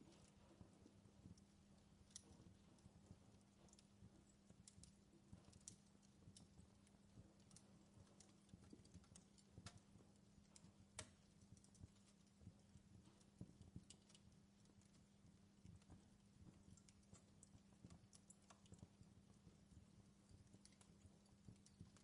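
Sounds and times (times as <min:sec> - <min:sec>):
low steady hum: 0:00.0 - 0:22.0
wood fire crackling: 0:00.0 - 0:22.0.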